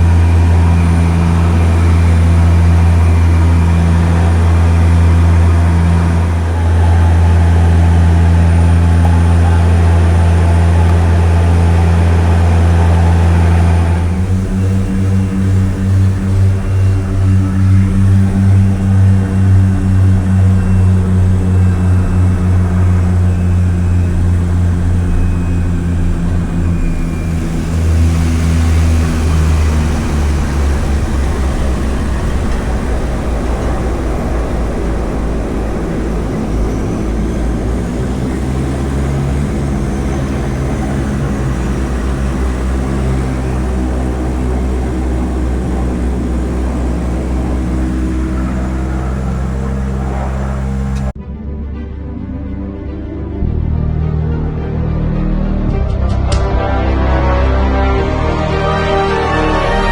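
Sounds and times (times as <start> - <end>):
hissing rush: 0.0 - 51.2
propeller engine running: 0.0 - 51.2.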